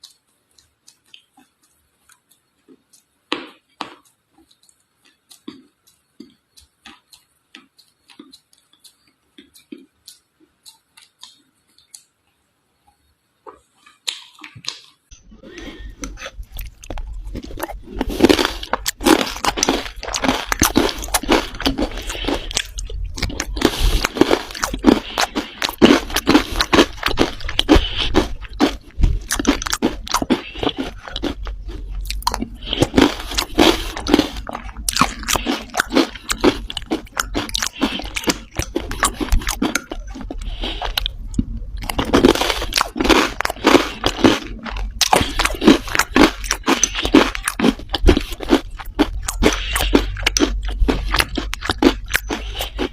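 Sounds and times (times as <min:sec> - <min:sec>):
clay being chewed: 0:00.0 - 0:52.9.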